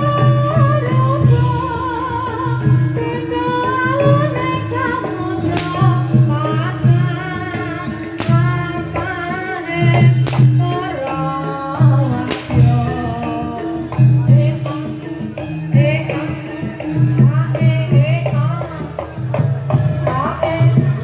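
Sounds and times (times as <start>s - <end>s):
person singing wavering melody: 0.0s - 19.4s
low drum beats: 0.0s - 21.0s
sharp percussion strikes: 0.0s - 21.0s.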